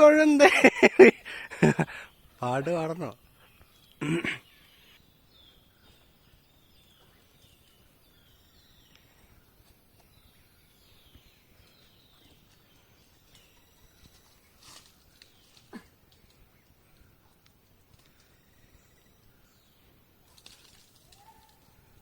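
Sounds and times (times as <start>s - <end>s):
faint forest ambience: 0.0s - 22.0s.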